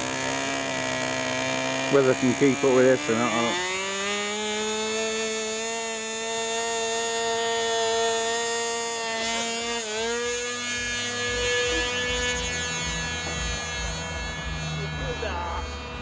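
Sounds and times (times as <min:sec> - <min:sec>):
model aircraft motor whine: 0:00.0 - 0:16.0.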